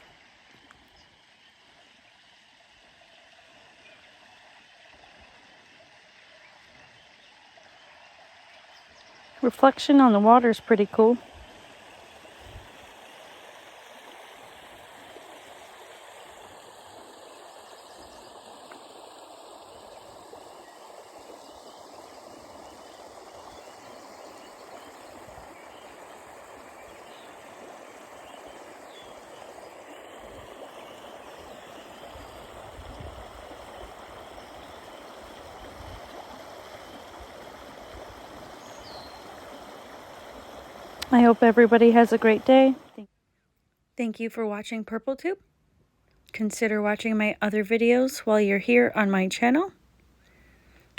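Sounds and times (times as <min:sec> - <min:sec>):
running water rushing: 0:00.0 - 0:43.1.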